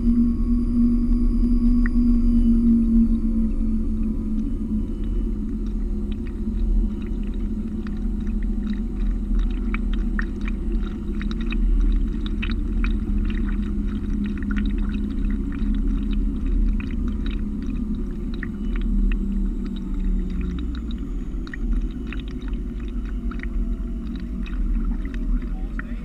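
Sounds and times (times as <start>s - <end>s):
steady low hum: 0.0s - 26.0s
water slapping against hull: 4.0s - 26.0s.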